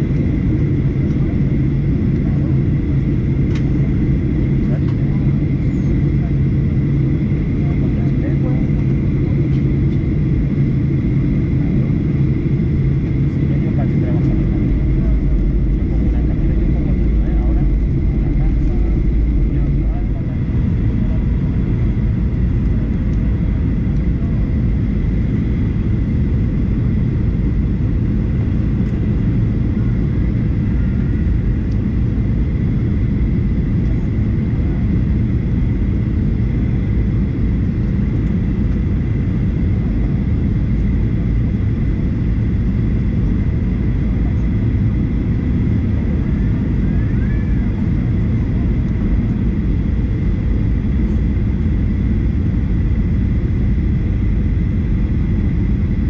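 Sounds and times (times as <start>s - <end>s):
airplane cabin engine rush: 0.0s - 56.0s.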